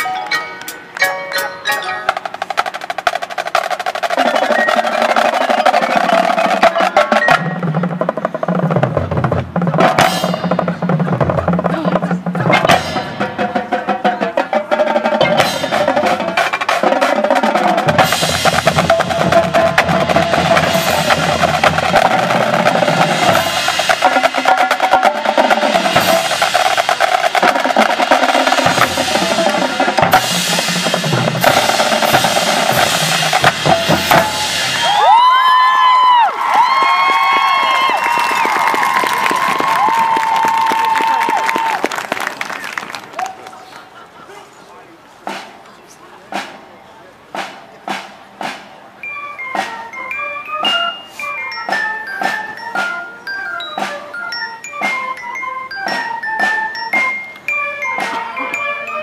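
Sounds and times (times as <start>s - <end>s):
drumline rapid strokes: 0.0s - 59.0s
marching band playing: 0.0s - 59.0s.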